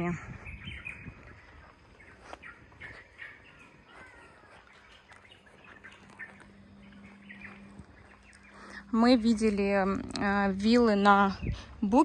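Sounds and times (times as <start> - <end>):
bird chirps and calls: 0.0 - 12.0
low outdoor hum: 0.0 - 12.0.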